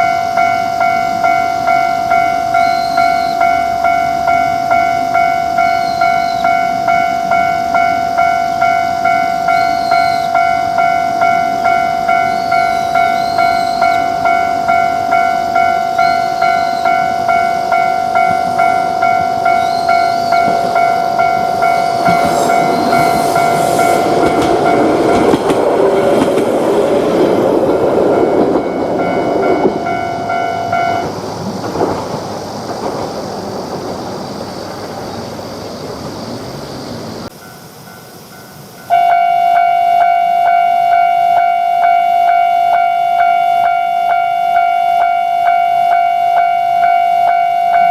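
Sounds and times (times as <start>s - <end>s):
railroad crossing warning bell: 0.0s - 32.1s, 36.1s - 47.9s
train rumble: 0.0s - 47.9s.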